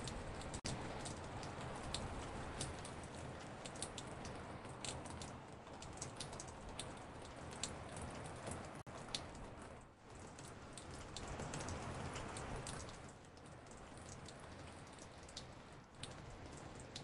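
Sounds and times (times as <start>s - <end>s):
raindrops ticking on a porch: 0.0s - 17.0s
steady rain hiss: 0.0s - 17.0s.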